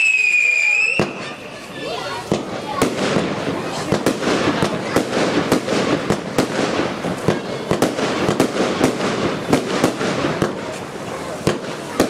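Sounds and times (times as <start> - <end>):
fireworks bangs: 0.0 - 12.0
fireworks bursting effects: 0.0 - 12.0.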